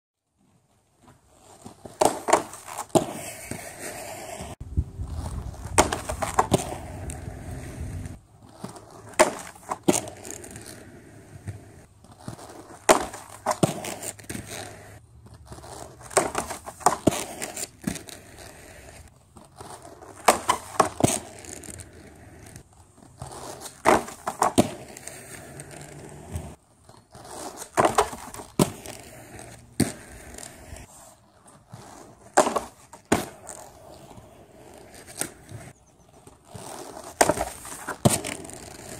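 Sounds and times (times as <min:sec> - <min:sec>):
skate wheels rolling on concrete: 0:00.2 - 0:38.9
skate grinding along plastic rail: 0:00.4 - 0:38.9
skates clattering on grind rail: 0:00.5 - 0:38.9.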